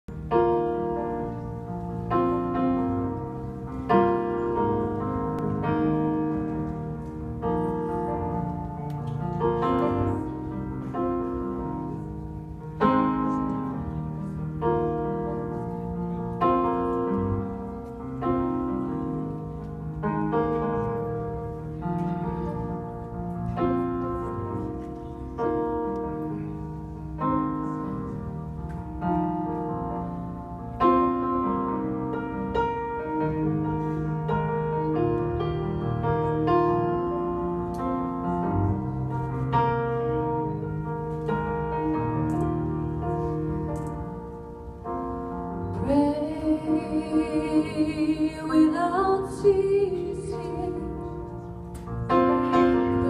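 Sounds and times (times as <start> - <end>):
keyboard piano chords: 0.0 - 53.0.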